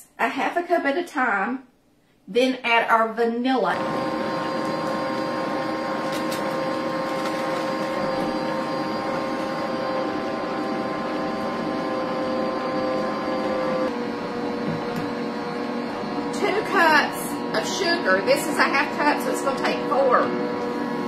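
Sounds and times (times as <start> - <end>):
stand mixer motor humming: 3.8 - 21.0.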